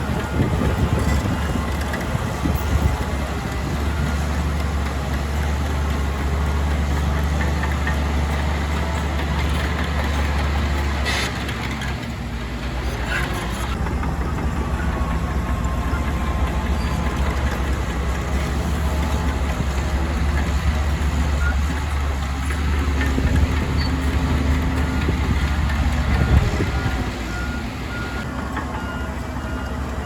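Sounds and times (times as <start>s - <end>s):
heavy diesel engine droning: 0.0s - 30.0s.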